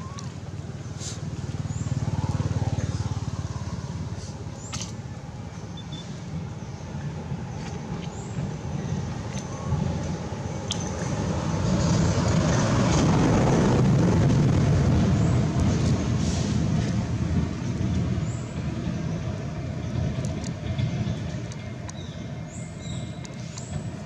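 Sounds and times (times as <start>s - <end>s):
passing vehicle engine rumble: 0.0s - 24.0s.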